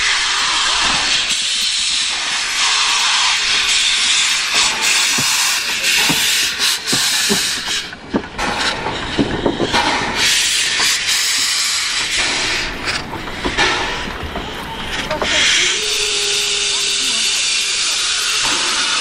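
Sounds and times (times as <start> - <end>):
locomotive rods and wheels clanking: 0.0 - 19.0
steam hissing in pulses: 0.0 - 19.0.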